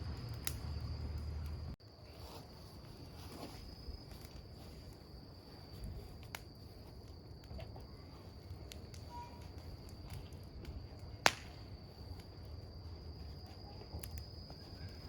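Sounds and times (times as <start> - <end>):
campfire crackling: 0.0 - 15.0
insect trill: 0.0 - 15.0.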